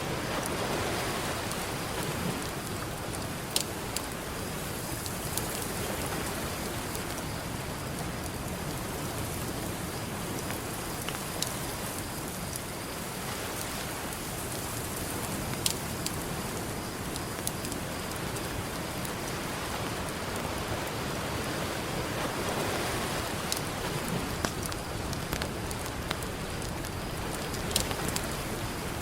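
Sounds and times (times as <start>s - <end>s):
campfire crackling and popping: 0.0s - 29.0s
ocean waves: 0.0s - 29.0s.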